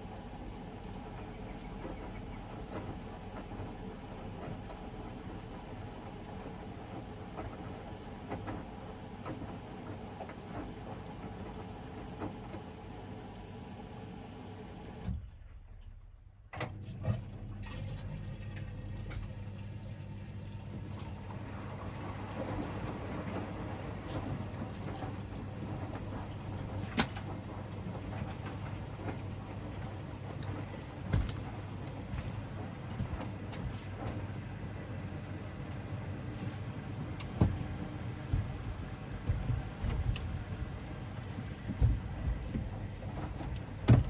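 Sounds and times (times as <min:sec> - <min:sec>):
washing machine running: 0:00.0 - 0:44.0.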